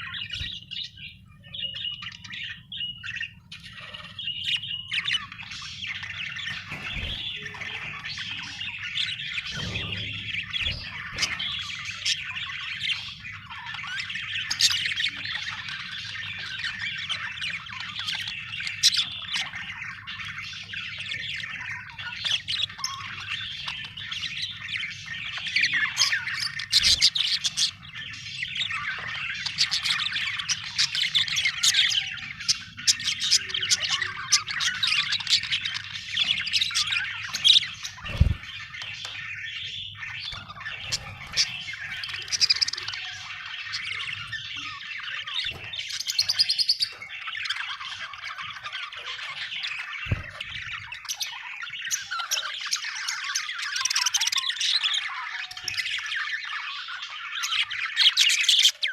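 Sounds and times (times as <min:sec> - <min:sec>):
budgerigars warbling and chirping: 0:00.0 - 0:58.9.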